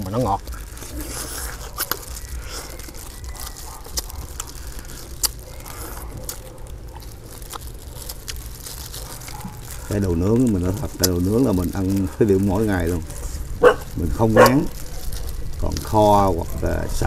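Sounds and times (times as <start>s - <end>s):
chewing and biting: 0.0s - 16.6s
low steady rumble: 0.0s - 17.0s
meat tearing clicks and crackles: 0.0s - 17.0s.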